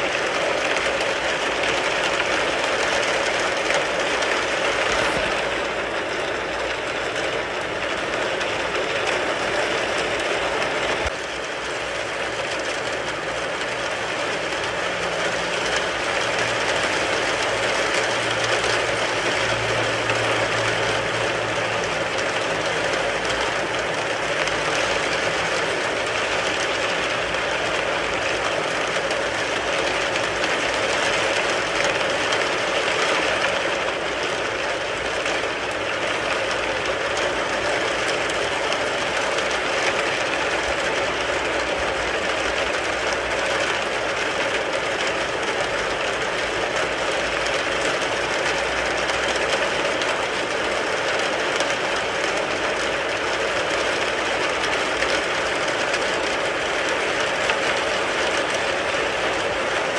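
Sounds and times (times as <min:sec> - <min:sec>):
rain pattering on a car: 0:00.0 - 0:59.9.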